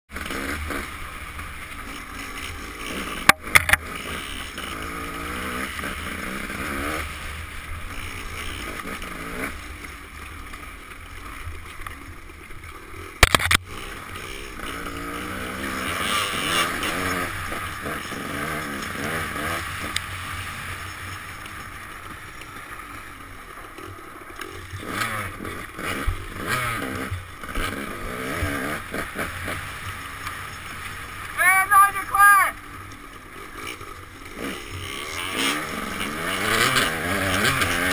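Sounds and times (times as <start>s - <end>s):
dirt bike engine revving: 0.1s - 12.1s, 12.7s - 37.9s.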